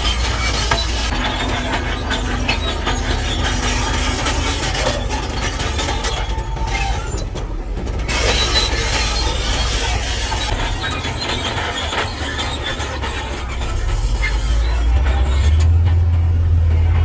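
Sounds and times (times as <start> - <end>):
heavy machinery engine rumble: 0.0 - 17.0
metallic clanking and squealing: 0.0 - 17.0.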